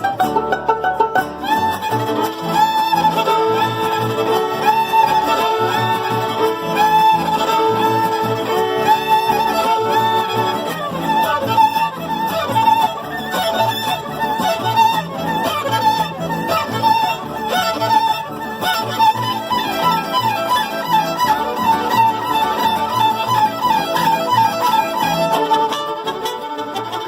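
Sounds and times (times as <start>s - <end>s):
violins playing melody: 0.0s - 27.0s.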